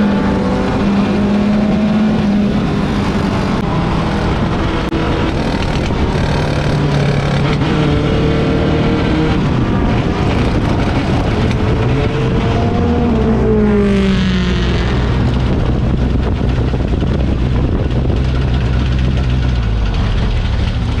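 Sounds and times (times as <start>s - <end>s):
race car engine drone: 0.0s - 21.0s
rushing wind noise: 0.0s - 21.0s.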